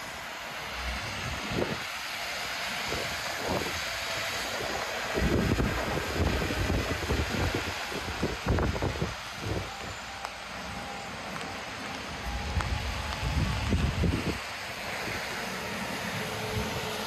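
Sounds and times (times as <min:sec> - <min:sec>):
city street traffic: 0:00.0 - 0:17.0
rain hiss: 0:00.0 - 0:17.0
wind buffeting microphone: 0:00.8 - 0:02.0, 0:02.6 - 0:17.0.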